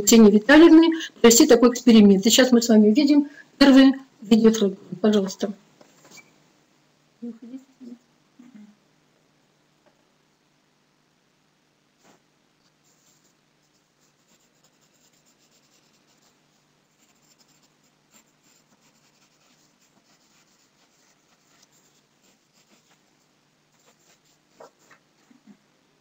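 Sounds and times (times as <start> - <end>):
faint room hum: 0.0 - 26.0.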